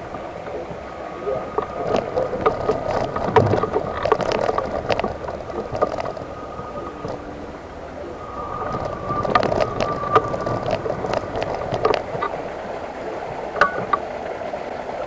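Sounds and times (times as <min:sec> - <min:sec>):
knocks and rattles: 0:00.0 - 0:12.4, 0:13.6 - 0:14.1
wheelchair motor whine: 0:00.0 - 0:15.0.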